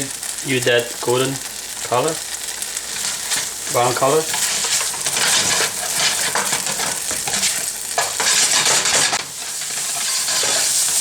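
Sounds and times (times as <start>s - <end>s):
noodles sizzling in a pan: 0.0s - 11.0s.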